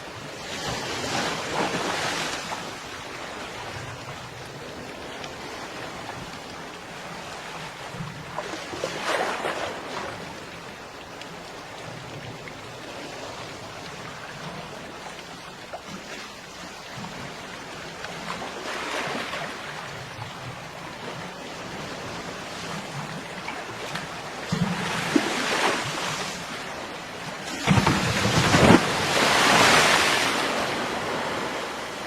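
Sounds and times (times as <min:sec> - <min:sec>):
ocean waves on a beach: 0:00.0 - 0:32.0.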